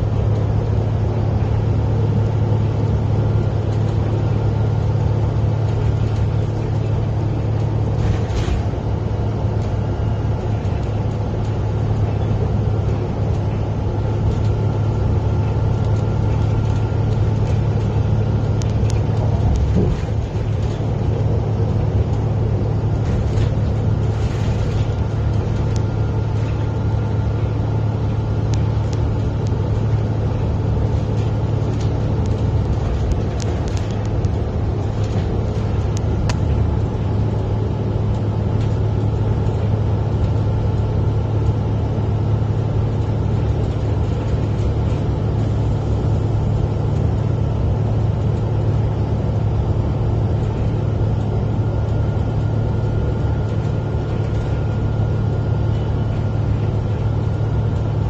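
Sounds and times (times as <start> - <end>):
vehicle cabin road rumble: 0.0 - 58.0.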